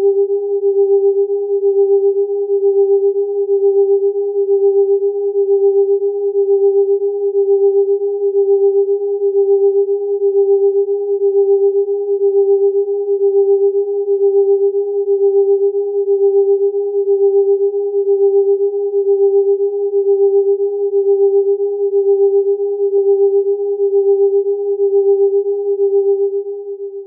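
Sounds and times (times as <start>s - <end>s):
beating electronic sine tones: 0.0s - 27.0s.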